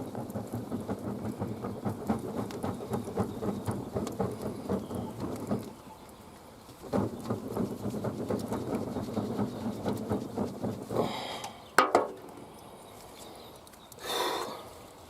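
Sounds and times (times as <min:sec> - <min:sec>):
firewood crackling and rustling: 0:00.0 - 0:15.0.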